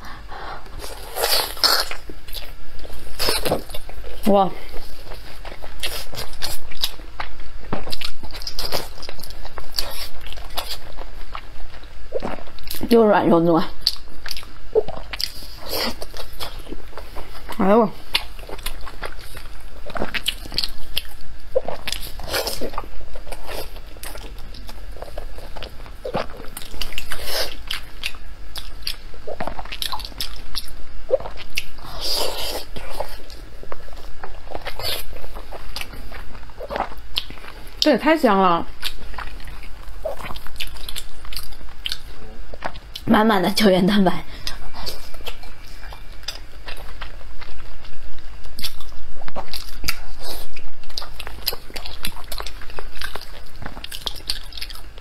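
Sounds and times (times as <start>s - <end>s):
wet chewing: 0.6s - 13.0s, 13.6s - 43.7s, 44.3s - 55.0s.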